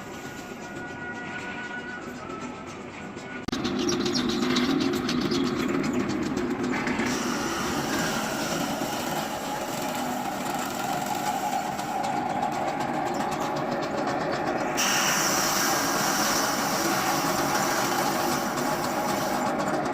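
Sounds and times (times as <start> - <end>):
seed stripping machine rattling: 3.5 - 19.9.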